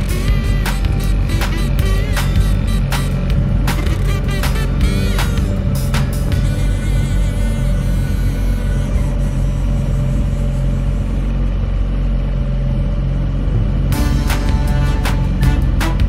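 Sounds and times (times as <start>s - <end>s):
motorboat engine drone: 0.0s - 16.0s.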